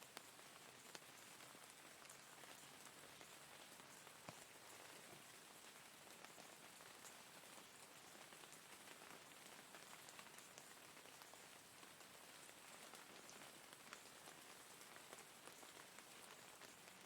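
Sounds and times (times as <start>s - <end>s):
steady rain hiss: 0.0s - 17.0s
raindrops ticking: 0.1s - 17.0s.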